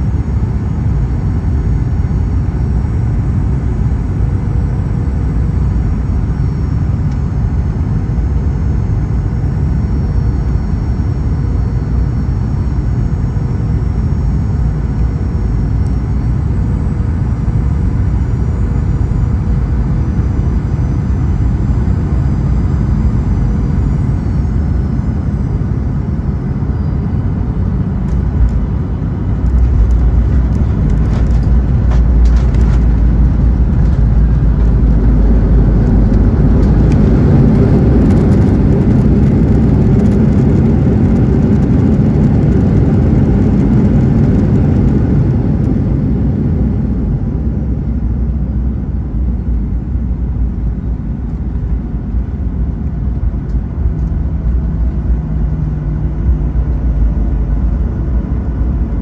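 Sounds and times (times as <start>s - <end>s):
jet engines rumbling: 0.0s - 59.0s
wheels rumbling on runway: 0.0s - 59.0s.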